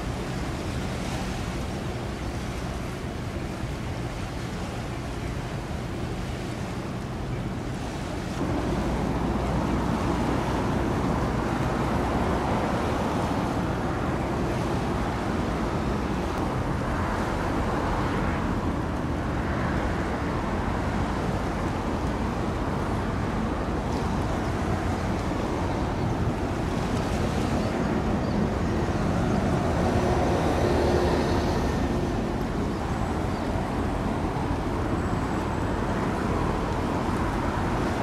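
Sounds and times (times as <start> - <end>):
ship engine drone: 0.0 - 38.0.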